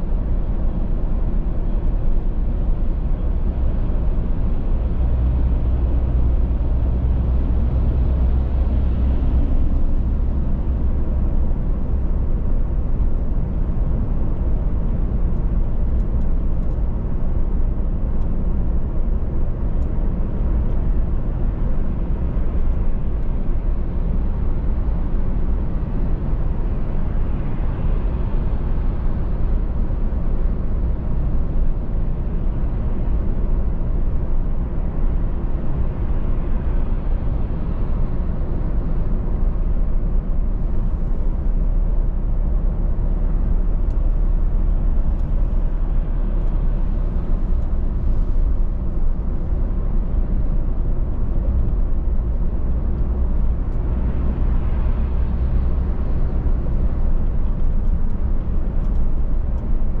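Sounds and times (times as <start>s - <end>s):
car driving: 0.1s - 59.9s.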